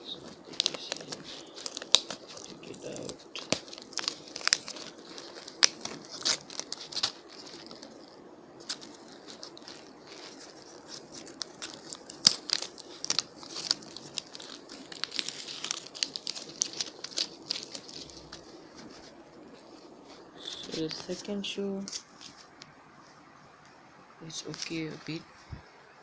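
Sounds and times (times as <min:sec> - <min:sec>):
plastic wrapping crinkling: 0:00.0 - 0:23.2, 0:24.3 - 0:25.6.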